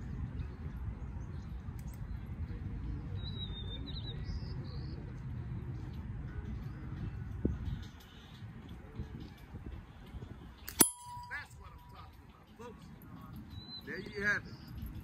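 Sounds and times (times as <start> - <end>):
wind rumbling on microphone: 0.0 - 12.3, 13.0 - 15.0.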